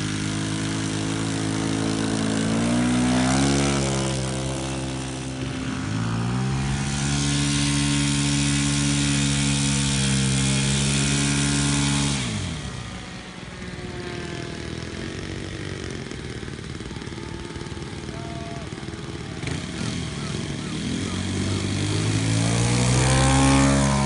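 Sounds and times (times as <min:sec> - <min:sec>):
model plane engine running: 0:00.0 - 0:24.0.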